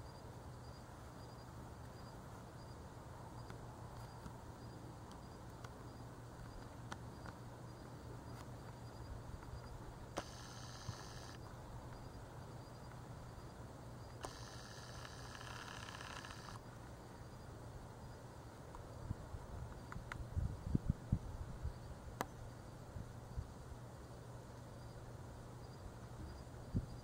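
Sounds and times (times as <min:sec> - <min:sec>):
high insect chirp: 0:00.0 - 0:27.0
steady low hum: 0:00.0 - 0:27.0.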